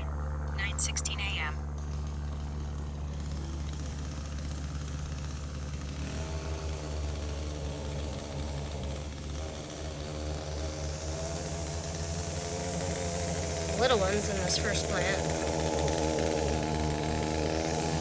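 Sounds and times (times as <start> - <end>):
string trimmer engine running: 1.6 - 18.0.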